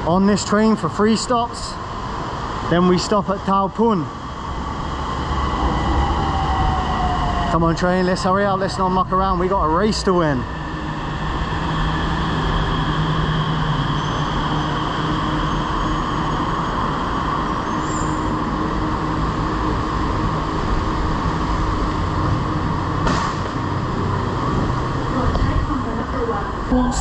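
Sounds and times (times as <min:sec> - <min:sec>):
faint electric whines: 0:00.0 - 0:27.0
train rumbling: 0:00.0 - 0:27.0.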